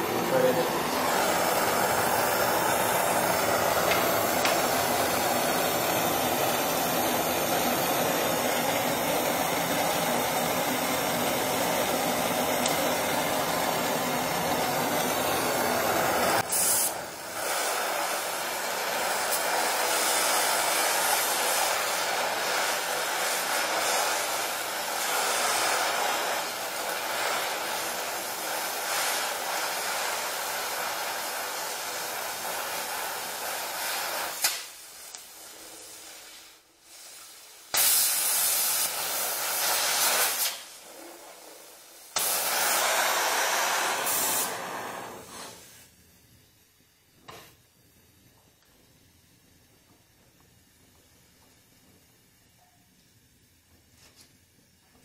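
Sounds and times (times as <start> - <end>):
torch flame hissing: 0.0 - 46.2.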